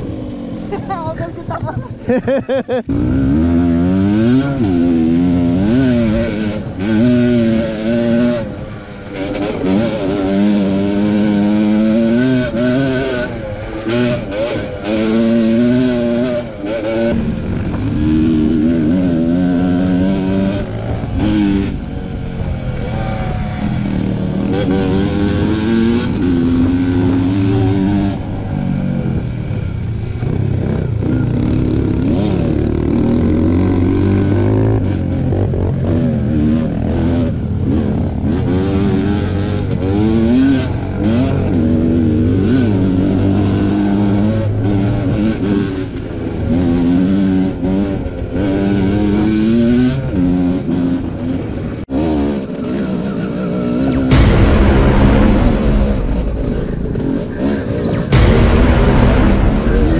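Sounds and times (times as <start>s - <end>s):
two-stroke engine revving: 2.9s - 59.9s.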